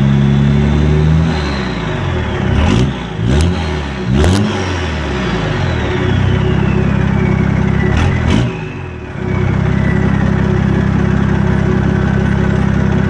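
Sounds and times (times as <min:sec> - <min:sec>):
turbocharger whistle: 0:00.0 - 0:12.6
engine running under load: 0:00.0 - 0:13.0.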